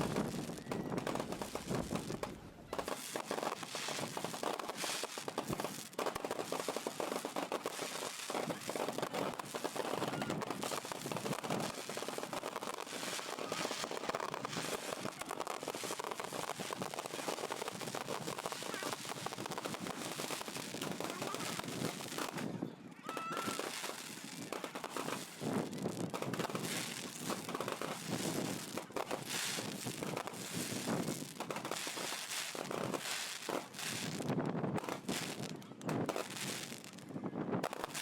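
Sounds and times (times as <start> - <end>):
firecrackers crackling and popping: 0.0 - 38.0.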